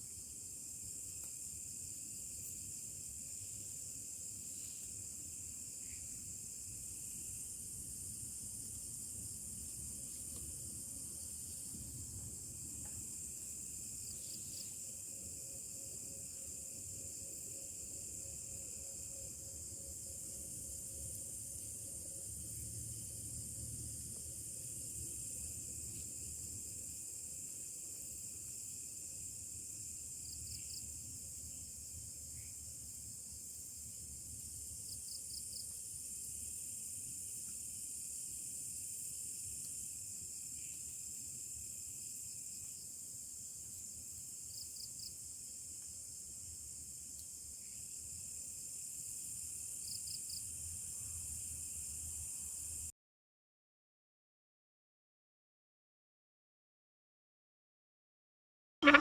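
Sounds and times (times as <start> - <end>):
insect chirps: 0.0 - 52.9
insect chorus: 0.0 - 52.9.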